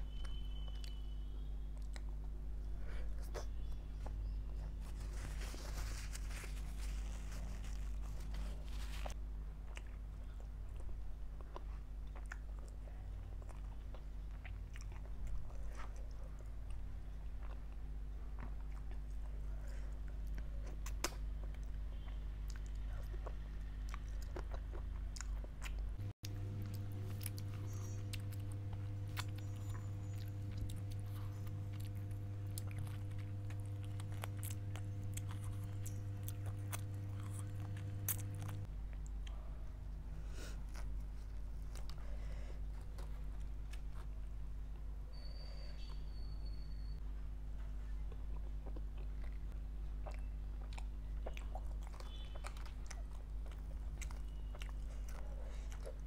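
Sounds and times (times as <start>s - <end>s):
low electrical hum: 0.0s - 56.0s
person chewing food: 0.1s - 46.0s, 47.9s - 56.0s.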